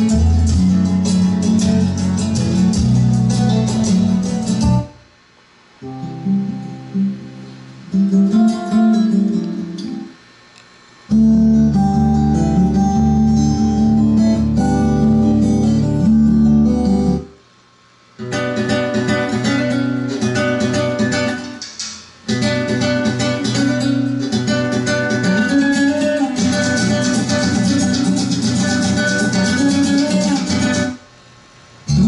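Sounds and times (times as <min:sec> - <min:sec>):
guitar music over loudspeakers: 0:00.0 - 0:05.0, 0:05.8 - 0:10.2, 0:11.1 - 0:17.3, 0:18.2 - 0:31.0.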